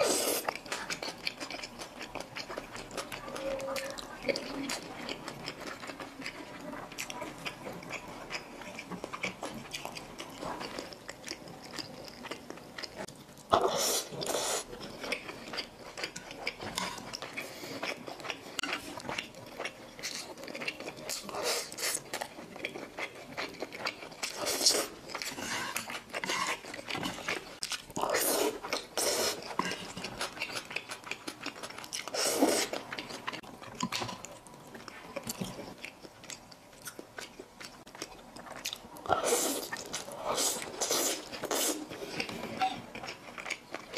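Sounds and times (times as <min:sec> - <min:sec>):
wet chewing with mouth clicks: 0:00.0 - 0:43.9.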